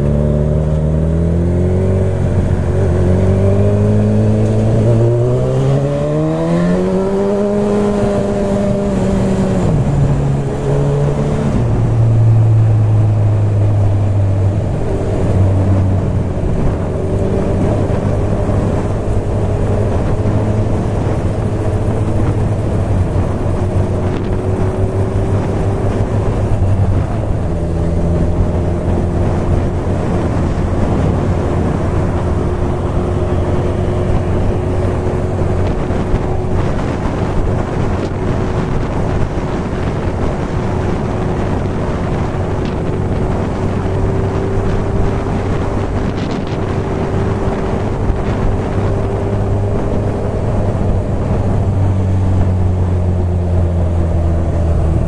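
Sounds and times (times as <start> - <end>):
motorcycle engine: 0.0 - 55.0
wind buffeting microphone: 0.0 - 55.0.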